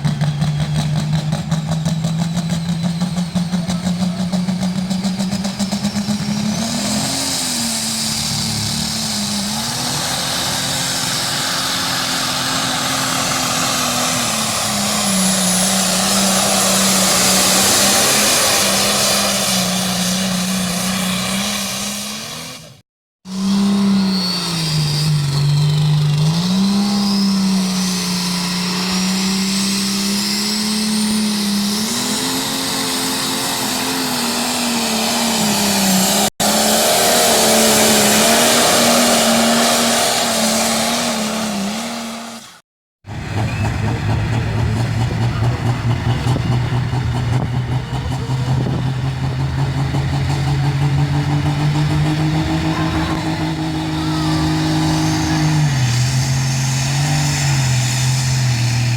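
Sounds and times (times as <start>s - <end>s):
engine running at high revs: 0.0s - 58.9s
engine running at lower pitch: 0.0s - 58.9s.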